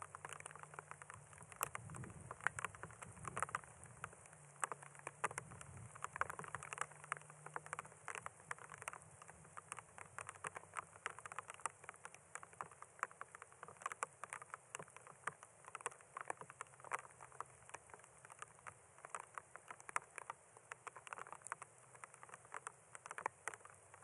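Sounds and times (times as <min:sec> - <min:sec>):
light rain pattering: 0:00.0 - 0:24.0.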